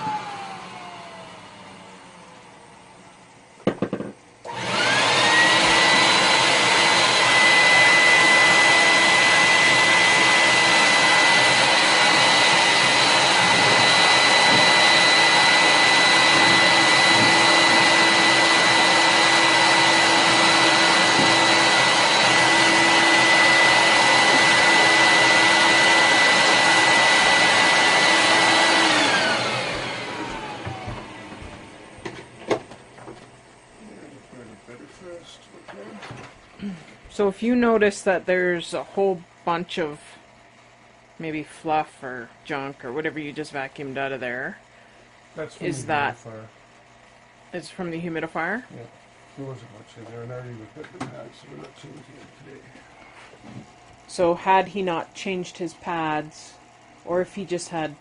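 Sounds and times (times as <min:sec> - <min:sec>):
vacuum cleaner whining: 0:00.0 - 0:46.6, 0:47.2 - 0:58.0.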